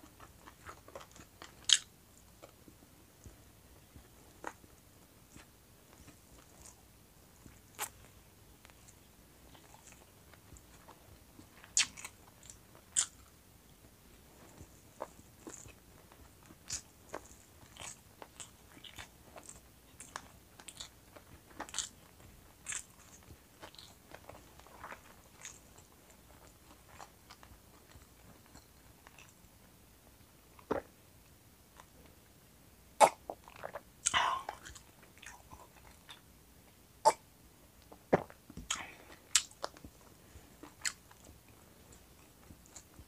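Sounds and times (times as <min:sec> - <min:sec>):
person chewing food: 0:00.0 - 0:13.4, 0:14.4 - 0:29.4, 0:33.0 - 0:36.3, 0:37.8 - 0:43.0.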